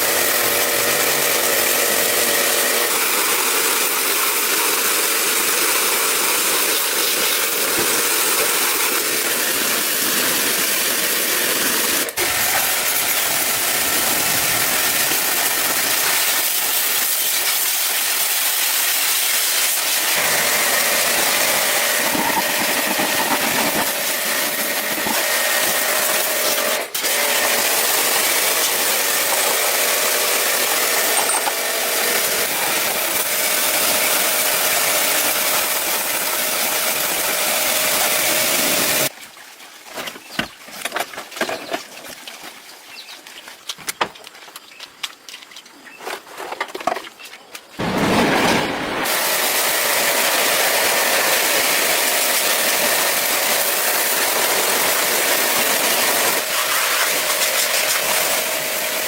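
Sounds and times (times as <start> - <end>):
hissing machine noise: 0.0 - 39.1, 47.8 - 59.0.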